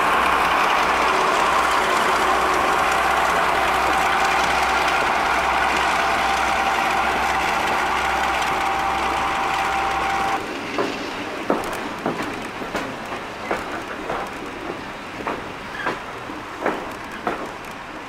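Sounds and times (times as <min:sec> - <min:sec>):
diesel locomotive engine drone: 0:00.0 - 0:18.0
train wheels clicking over rail joints: 0:00.0 - 0:18.0.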